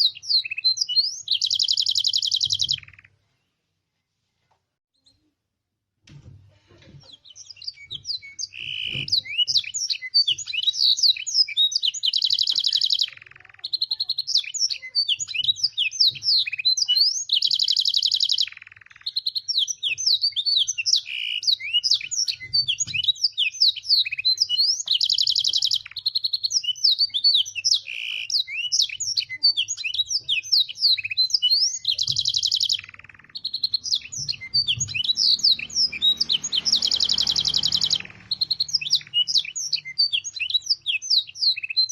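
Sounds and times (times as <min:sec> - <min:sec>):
canary singing: 0:00.0 - 0:03.2, 0:07.0 - 0:41.9.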